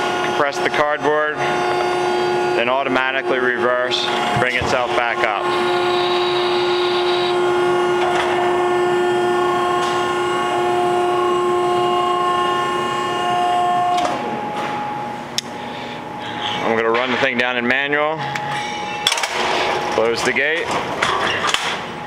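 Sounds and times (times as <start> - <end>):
hydraulic power unit whine: 0.0 - 22.0.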